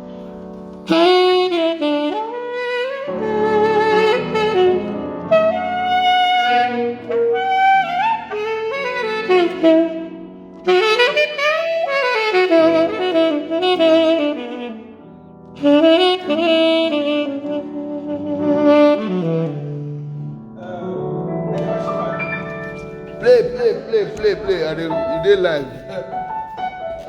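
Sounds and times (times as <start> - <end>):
saxophone playing jazz: 0.0 - 27.0.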